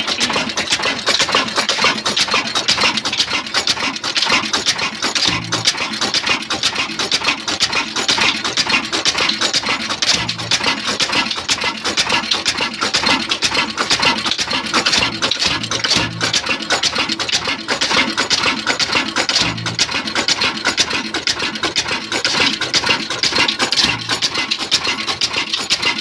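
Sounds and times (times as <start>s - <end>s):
diesel engine running: 0.0s - 26.0s
fast mechanical clatter: 0.0s - 26.0s.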